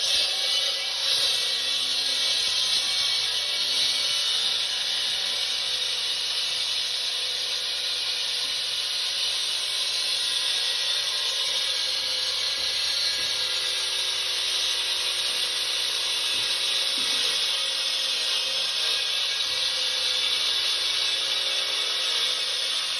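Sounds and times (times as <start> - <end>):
concrete saw running: 0.0 - 22.9.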